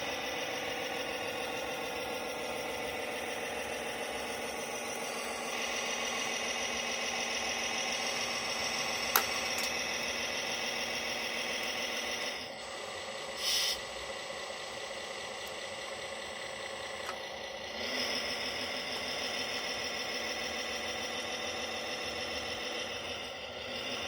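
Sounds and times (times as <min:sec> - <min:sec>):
model truck motor whine: 0:00.0 - 0:24.0.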